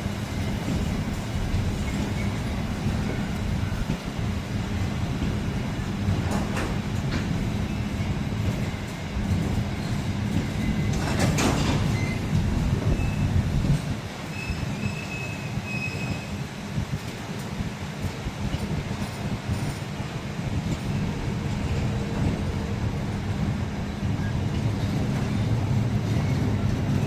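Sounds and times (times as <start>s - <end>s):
freight train passing: 0.0s - 27.0s.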